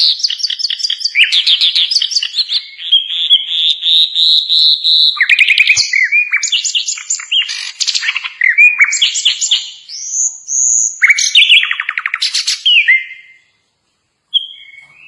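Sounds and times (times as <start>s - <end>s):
nightingale singing: 0.0s - 13.6s, 14.3s - 15.0s.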